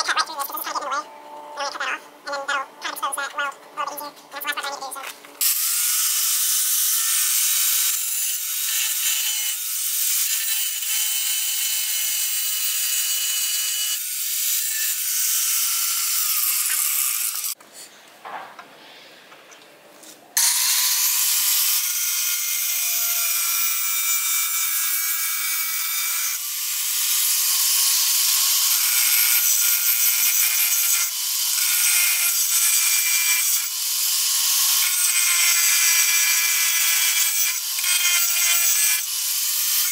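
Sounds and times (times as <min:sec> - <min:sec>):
angle grinder grinding metal: 0:03.9 - 0:17.6, 0:20.4 - 0:39.9.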